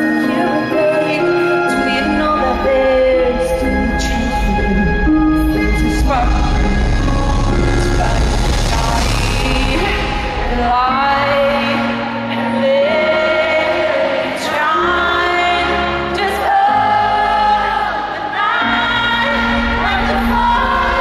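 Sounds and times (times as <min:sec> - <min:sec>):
band playing pop music: 0:00.0 - 0:21.0
woman singing into a microphone: 0:00.0 - 0:21.0.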